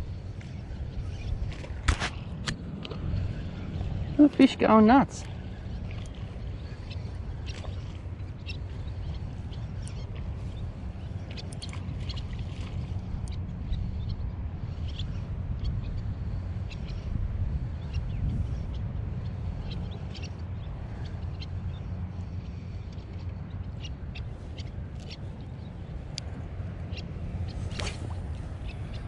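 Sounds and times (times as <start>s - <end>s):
birds chirping: 0.0s - 29.0s
steady low rumble: 0.0s - 29.0s.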